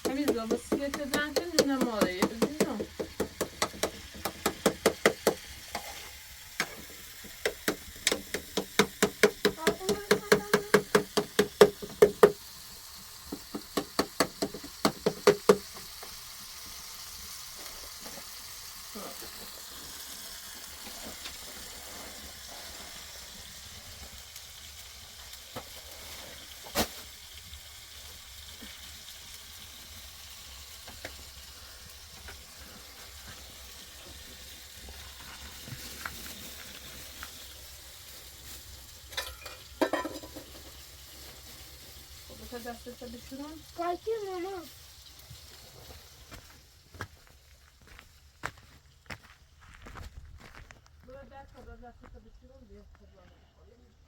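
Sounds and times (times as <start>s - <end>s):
food sizzling in a pan: 0.0s - 48.5s.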